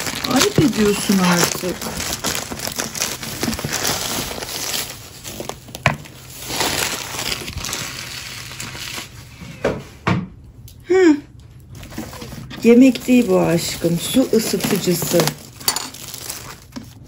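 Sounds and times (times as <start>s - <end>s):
packaging rustling and crinkling: 0.0s - 9.4s, 11.6s - 17.0s.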